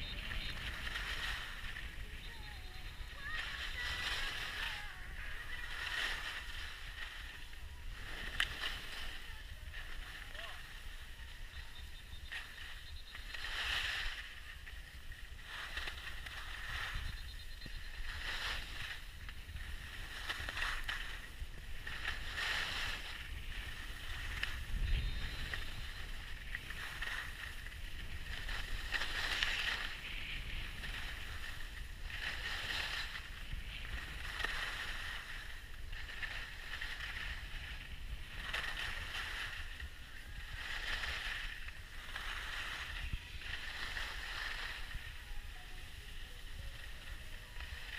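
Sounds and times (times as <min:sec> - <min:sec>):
skis scraping on packed snow: 0:00.0 - 0:47.9
wind rumble on microphone: 0:00.0 - 0:47.9.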